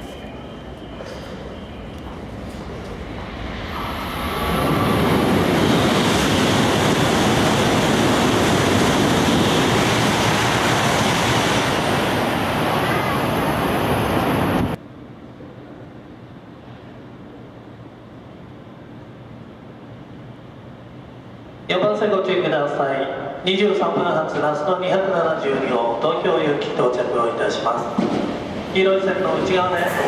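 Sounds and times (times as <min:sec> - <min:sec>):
high-speed train passing: 0:00.0 - 0:30.0.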